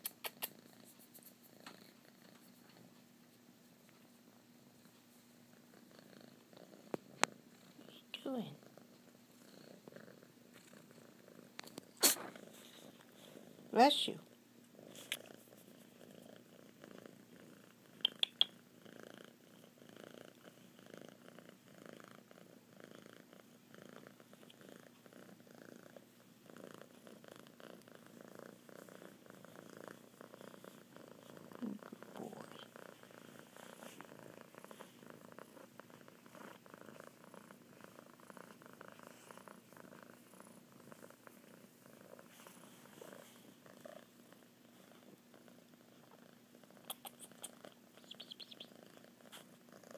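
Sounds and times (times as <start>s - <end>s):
kitten purring loudly: 5.4s - 49.9s.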